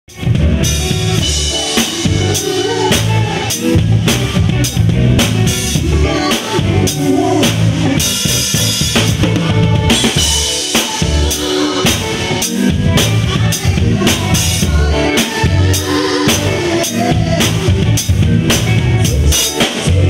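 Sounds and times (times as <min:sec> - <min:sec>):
drum kit groove: 0:00.1 - 0:20.0.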